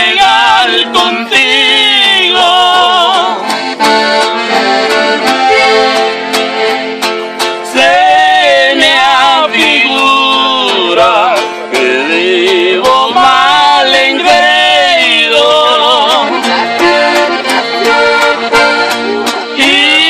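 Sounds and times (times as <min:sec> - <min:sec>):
button accordion melody: 0:00.0 - 0:20.0
strummed guitar chords: 0:00.0 - 0:20.0.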